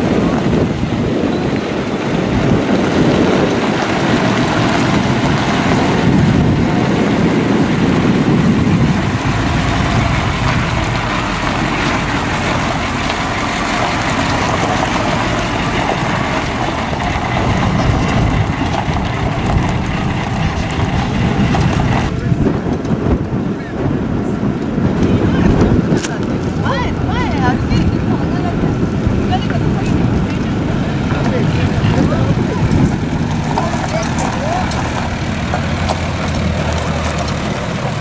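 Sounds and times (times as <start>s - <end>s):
tyres on gravel: 0.0s - 23.5s, 24.4s - 38.0s
diesel truck engine rumble: 0.0s - 38.0s.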